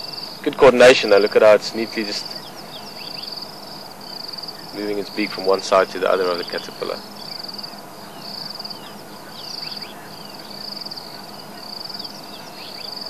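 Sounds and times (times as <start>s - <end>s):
insect trilling: 0.0s - 13.0s.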